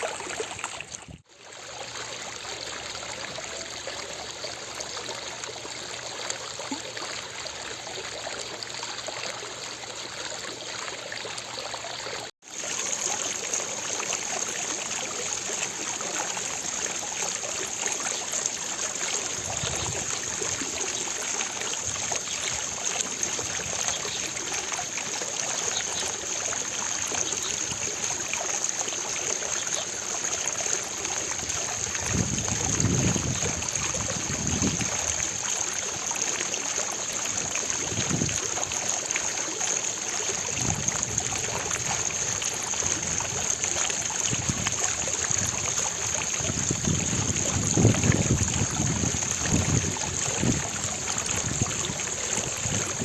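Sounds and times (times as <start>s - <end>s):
fountain water splashing: 0.0s - 53.0s.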